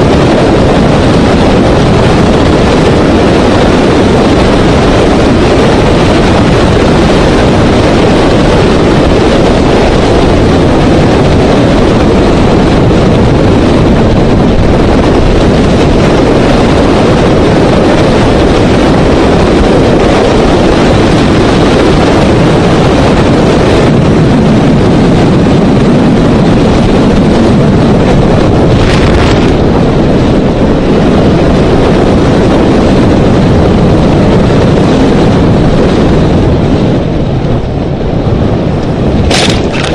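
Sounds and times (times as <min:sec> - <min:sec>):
vehicle rumble: 0:00.0 - 0:39.9
wind noise: 0:00.0 - 0:39.9.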